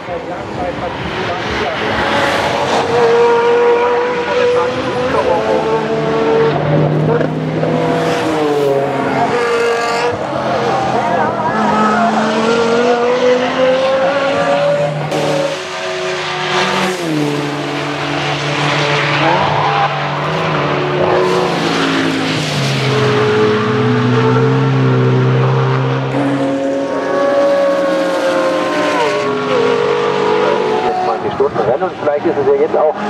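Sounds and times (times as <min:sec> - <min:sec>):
race cars passing at speed: 0:00.0 - 0:33.0.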